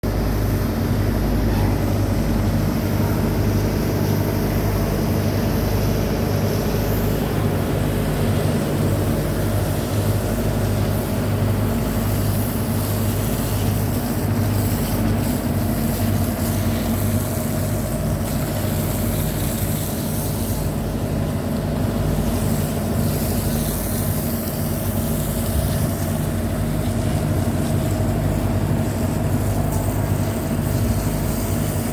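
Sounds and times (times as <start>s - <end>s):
large engine droning: 0.1s - 31.9s
hiss: 3.2s - 31.9s.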